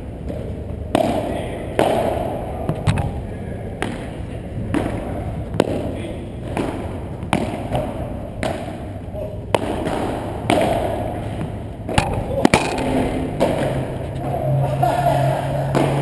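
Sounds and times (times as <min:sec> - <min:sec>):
ball bouncing: 0:00.2 - 0:03.2, 0:03.8 - 0:14.4
racket striking ball: 0:00.3 - 0:03.2, 0:03.8 - 0:14.4, 0:15.5 - 0:16.0.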